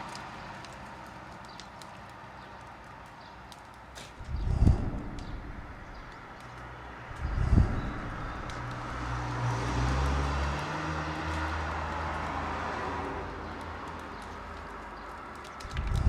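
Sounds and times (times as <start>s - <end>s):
outdoor background noise: 0.0s - 16.0s
vehicle engine hum: 0.0s - 16.0s.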